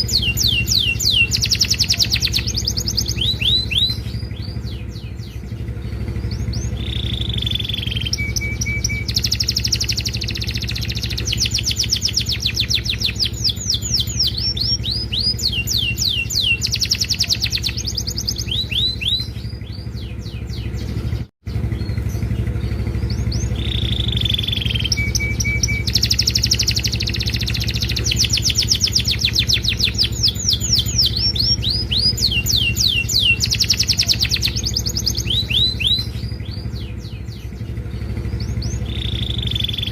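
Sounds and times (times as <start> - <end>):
canary singing trills: 0.0 - 39.9
steady low hum: 0.0 - 39.9.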